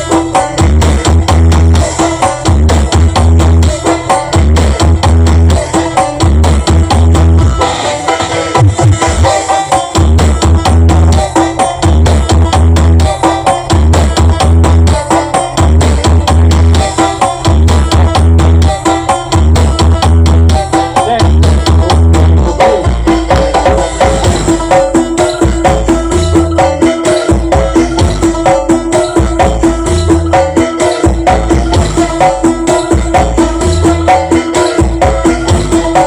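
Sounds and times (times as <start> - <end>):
loud electronic dance music: 0.0 - 36.0.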